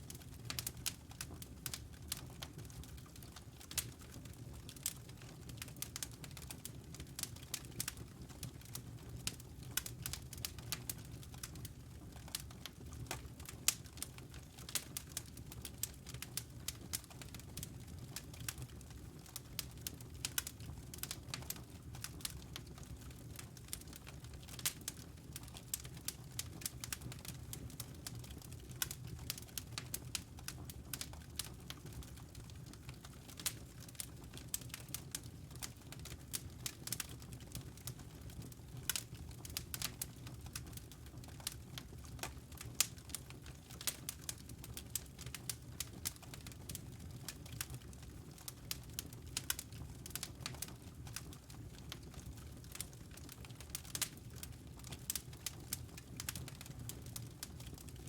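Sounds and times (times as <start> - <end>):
wood logs crackling in fireplace: 0.0 - 58.0.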